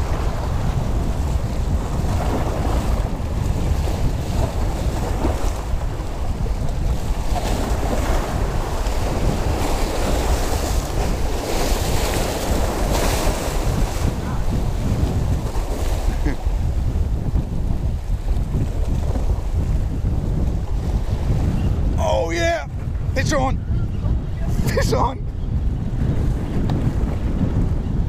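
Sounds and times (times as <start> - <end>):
waves splashing against boulders: 0.0 - 21.2, 22.0 - 23.5
wind buffeting microphone: 0.0 - 28.0.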